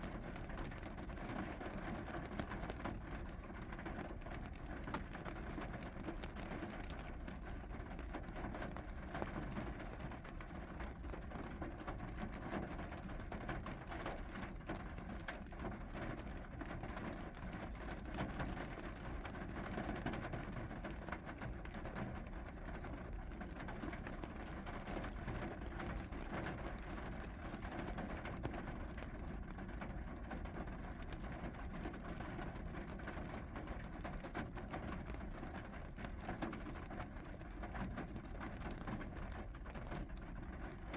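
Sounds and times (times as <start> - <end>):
raindrops ticking on a surface: 0.0 - 40.9.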